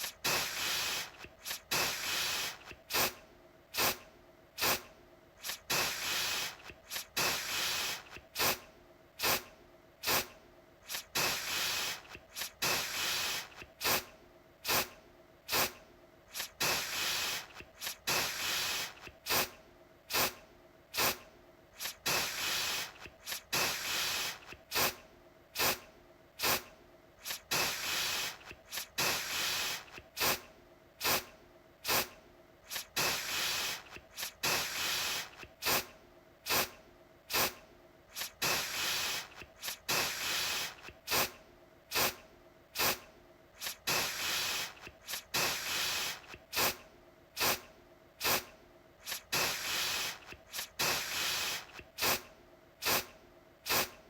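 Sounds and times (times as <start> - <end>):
aerosol can spraying: 0.0 - 3.2, 3.8 - 4.0, 4.6 - 8.6, 9.2 - 21.2, 21.8 - 25.0, 25.6 - 25.8, 26.4 - 35.9, 36.5 - 42.2, 42.8 - 43.0, 43.6 - 46.8, 47.4 - 54.0.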